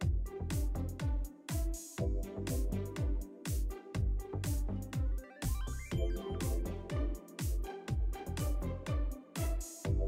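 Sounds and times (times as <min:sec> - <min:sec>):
electronic music with thumping beat: 0:00.0 - 0:10.0.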